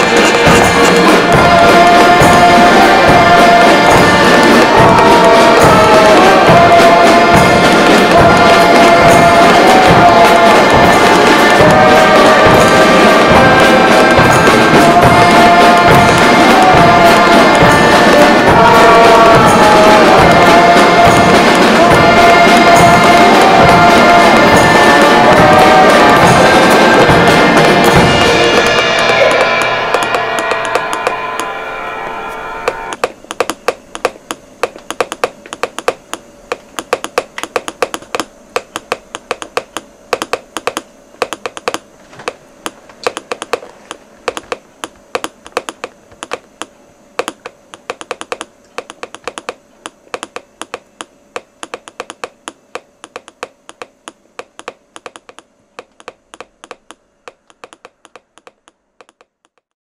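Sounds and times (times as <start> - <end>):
rapid irregular clicking: 0.0 - 31.2, 32.9 - 59.7
faint steady hum: 0.0 - 59.7.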